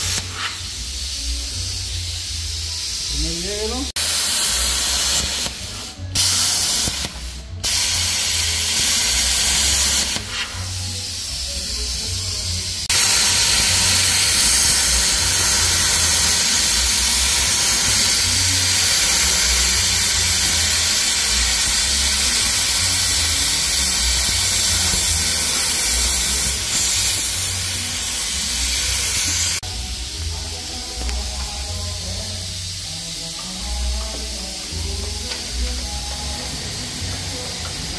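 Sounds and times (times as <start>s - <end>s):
plasma cutter hissing: 0.0s - 37.9s.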